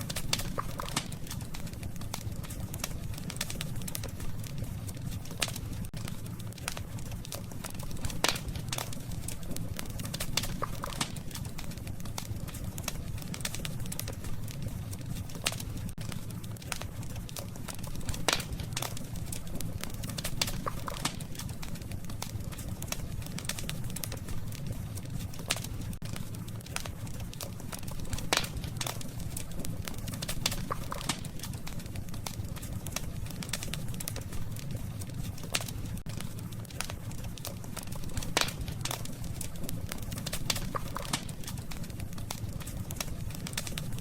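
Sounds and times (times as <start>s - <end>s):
low fire rumble: 0.0s - 44.0s
sharp pops of fire: 0.0s - 44.0s
wood campfire crackling: 0.0s - 44.0s.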